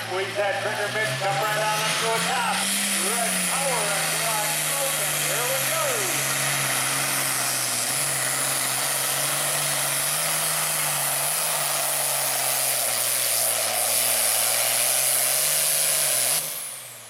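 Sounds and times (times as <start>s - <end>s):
tractor diesel engine at full throttle: 0.0s - 17.0s.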